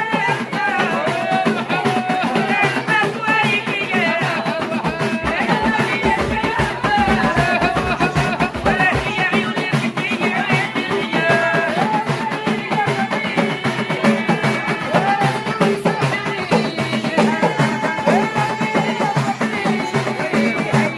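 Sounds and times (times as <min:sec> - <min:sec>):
hand-drum rhythm: 0:00.0 - 0:20.9.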